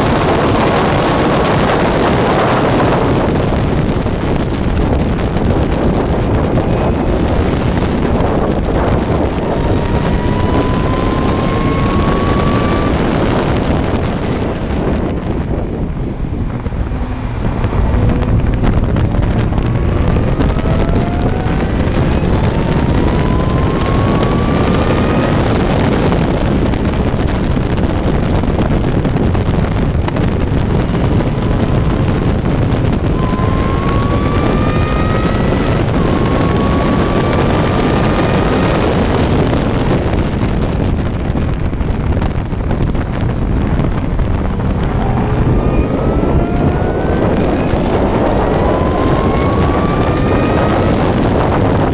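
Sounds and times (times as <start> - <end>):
racing engine revving: 0.0 - 51.9
wind buffeting microphone: 0.0 - 51.9.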